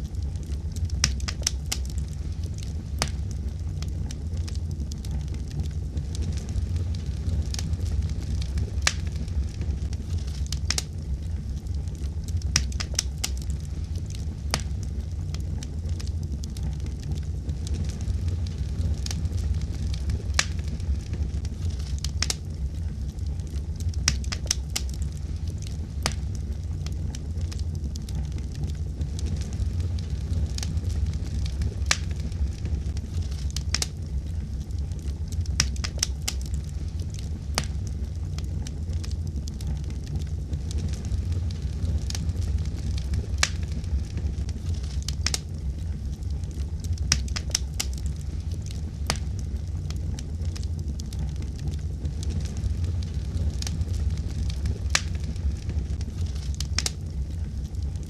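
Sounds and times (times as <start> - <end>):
fire crackles and pops: 0.0 - 58.0
wood fire burning: 0.0 - 58.0.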